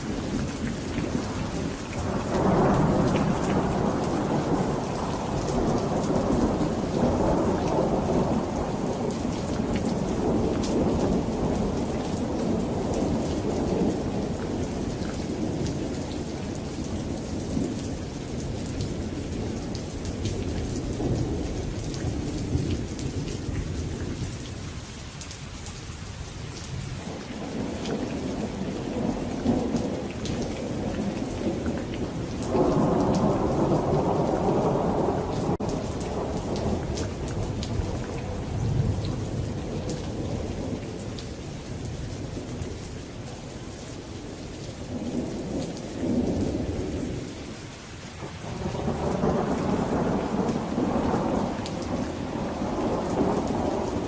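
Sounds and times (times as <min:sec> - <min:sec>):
rolling thunder: 0:00.0 - 0:24.3, 0:27.0 - 0:42.6, 0:48.3 - 0:54.0
raindrops pattering: 0:00.0 - 0:54.0
steady rain: 0:00.0 - 0:54.0.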